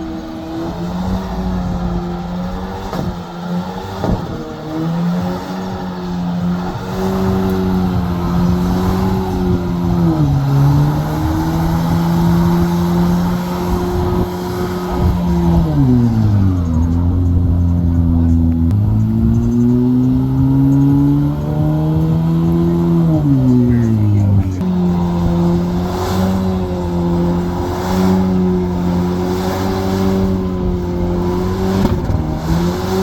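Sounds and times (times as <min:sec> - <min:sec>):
truck engine revving high: 0:00.0 - 0:33.0.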